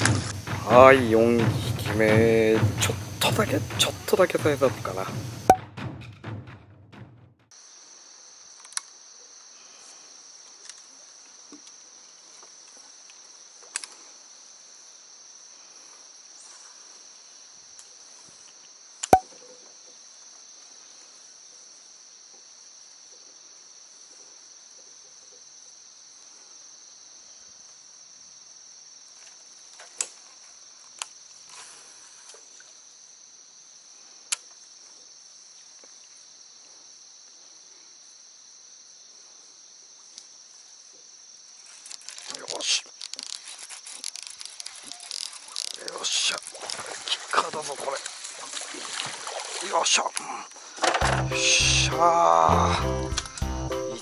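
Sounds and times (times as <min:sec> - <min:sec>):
high-pitched insect chorus: 0:00.0 - 0:05.6, 0:07.5 - 0:54.0.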